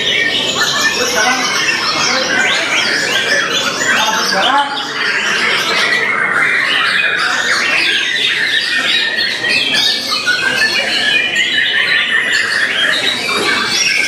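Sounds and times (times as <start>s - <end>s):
songbirds singing in chorus: 0.0s - 14.0s.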